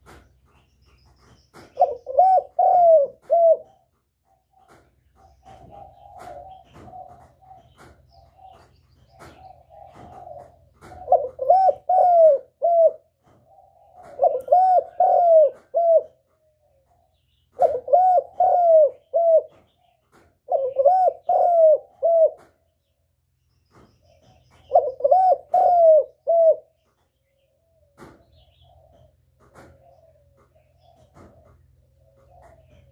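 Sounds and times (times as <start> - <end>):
dove cooing: 0.0 - 22.7, 23.7 - 32.9.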